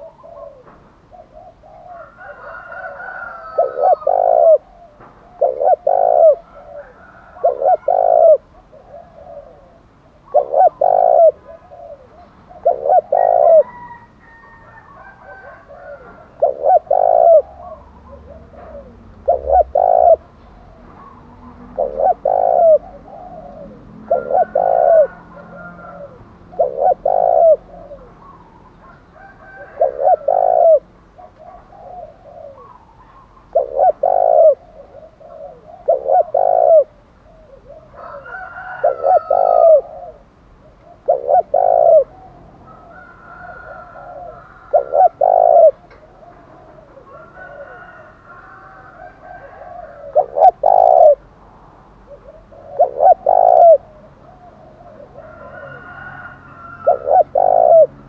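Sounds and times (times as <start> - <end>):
high bird calls: 0.0 - 13.9, 15.3 - 43.0, 49.8 - 51.2, 52.1 - 57.9
dove cooing: 0.0 - 58.0.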